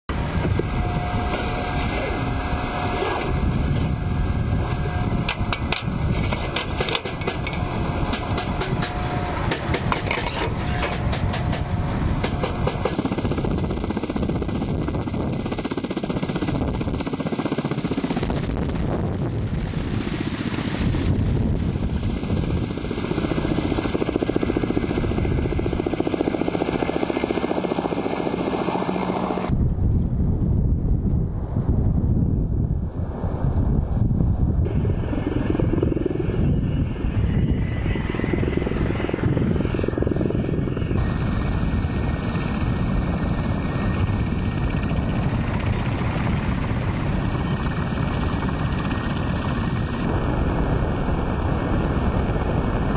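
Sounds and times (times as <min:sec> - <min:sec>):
helicopter turbines and rotors: 0:00.1 - 0:31.1, 0:34.2 - 0:52.9.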